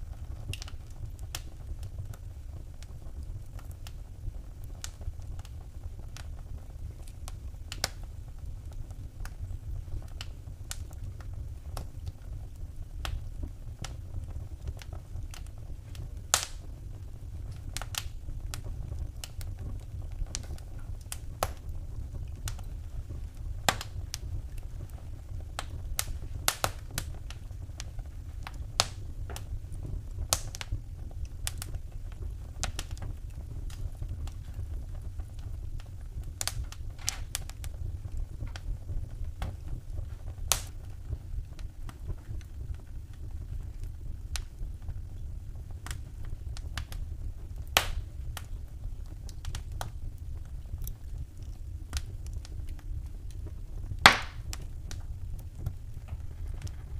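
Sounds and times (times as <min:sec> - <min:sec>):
low fire rumble: 0:00.0 - 0:56.9
wood fire crackling: 0:00.0 - 0:56.9.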